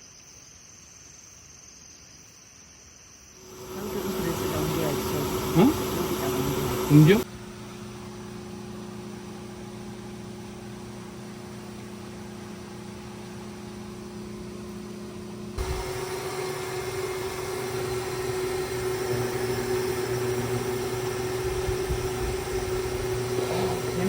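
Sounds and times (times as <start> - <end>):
low hum: 3.4 - 24.0.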